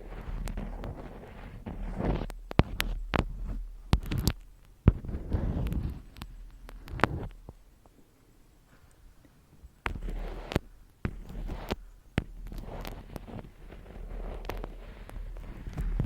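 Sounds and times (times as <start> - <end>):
faint low hum: 0.0 - 16.0
rustling and scratching: 0.0 - 16.0
sharp taps and clicks: 2.2 - 8.0, 8.9 - 16.0.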